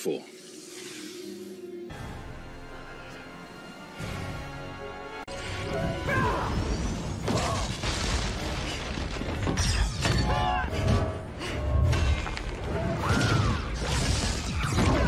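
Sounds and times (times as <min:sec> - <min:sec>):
film music score: 0:00.0 - 0:15.0.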